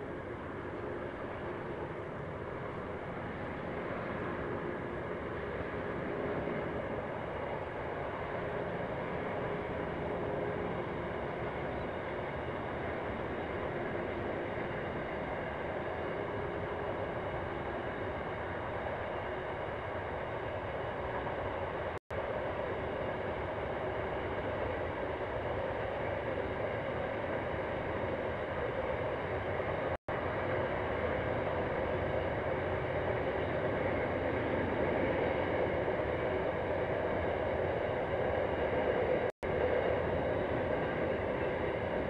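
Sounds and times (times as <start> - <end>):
diesel freight train rumble: 0.0 - 42.0
faint engine tones: 0.0 - 42.0.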